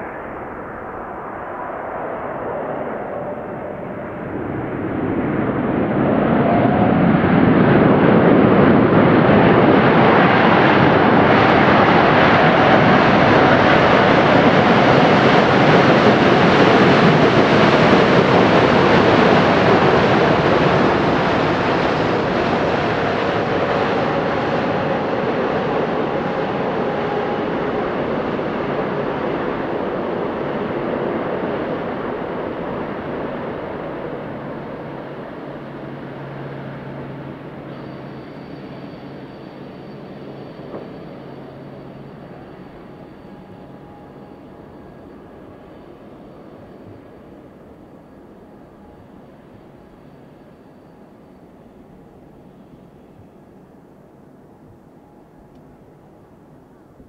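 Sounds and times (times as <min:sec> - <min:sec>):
jet engines at reverse thrust: 0:00.0 - 0:57.0.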